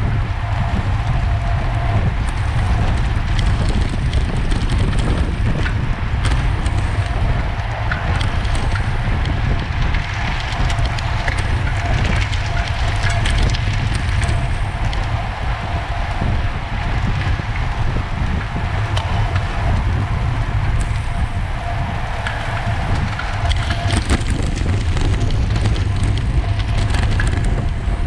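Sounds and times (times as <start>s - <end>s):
continuous crackle: 0.0s - 28.0s
wind buffeting microphone: 0.0s - 28.0s.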